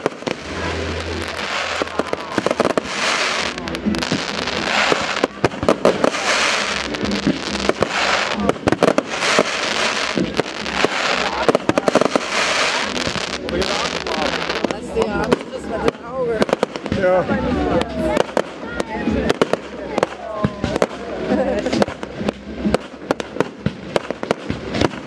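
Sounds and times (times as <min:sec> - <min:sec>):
fireworks bursting: 0:00.0 - 0:25.0
fireworks crackle: 0:00.0 - 0:25.0.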